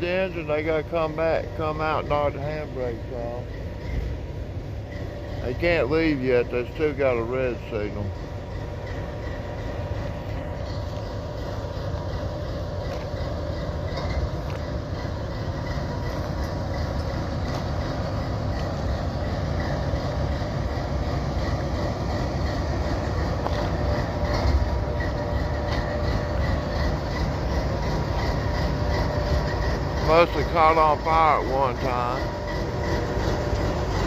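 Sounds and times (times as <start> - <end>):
diesel locomotives rumbling: 0.0 - 34.0.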